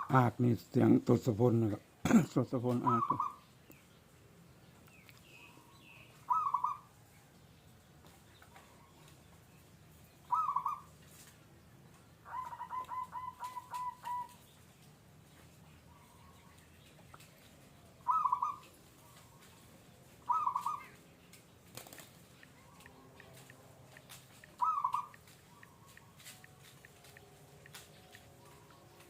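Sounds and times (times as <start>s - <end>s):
bird calls: 2.4s - 29.0s.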